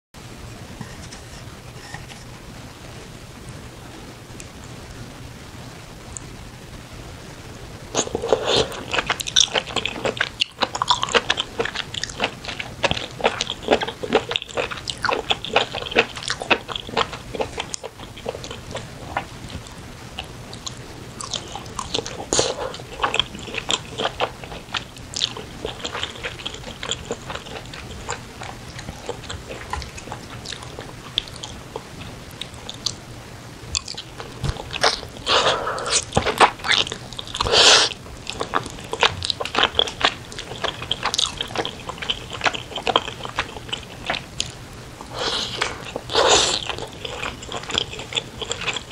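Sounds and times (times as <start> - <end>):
chewing with mouth clicks: 7.9 - 33.0, 33.7 - 48.9.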